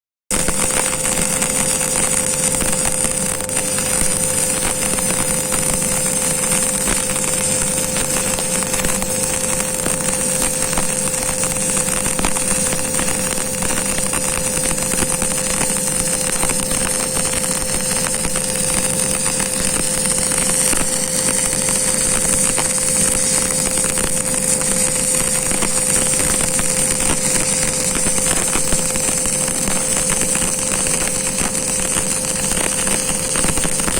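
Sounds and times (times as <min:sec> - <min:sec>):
machine hum: 0:00.4 - 0:33.9.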